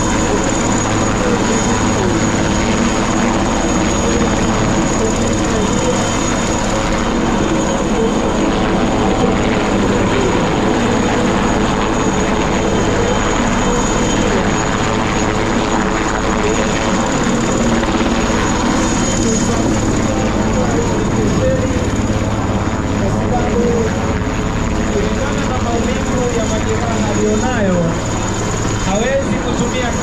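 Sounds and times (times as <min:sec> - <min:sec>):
helicopter rotor and turbine: 0:00.0 - 0:30.0.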